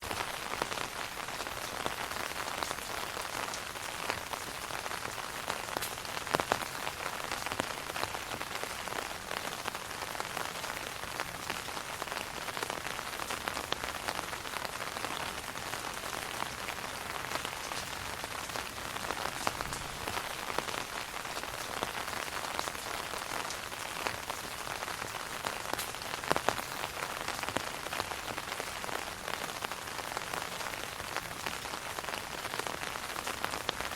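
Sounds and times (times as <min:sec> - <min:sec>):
rain on an umbrella: 0:00.0 - 0:33.9.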